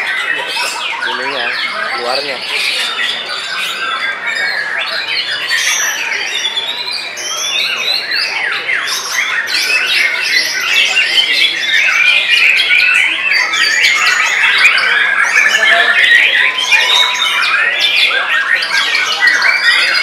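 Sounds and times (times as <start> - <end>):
songbirds whistling: 0.0 - 20.0.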